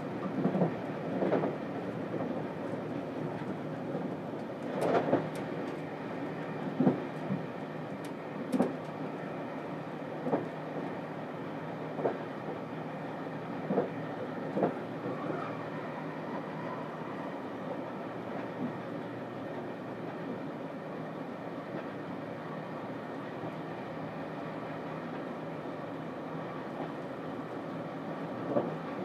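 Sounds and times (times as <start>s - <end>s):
train interior rumble: 0.0s - 29.0s.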